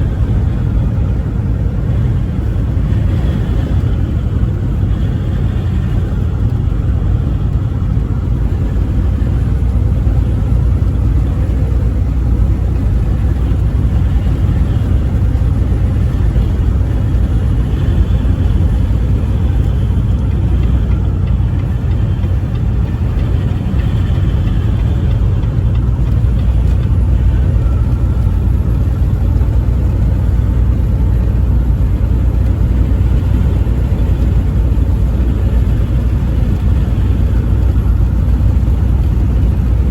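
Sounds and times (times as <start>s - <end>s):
vehicle driving on highway: 0.0s - 39.9s.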